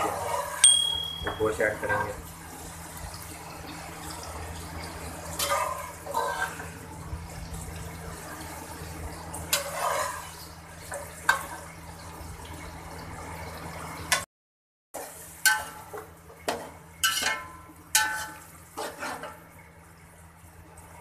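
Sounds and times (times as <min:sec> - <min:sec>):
food sizzling in hot oil: 0:00.0 - 0:13.2, 0:15.0 - 0:19.6.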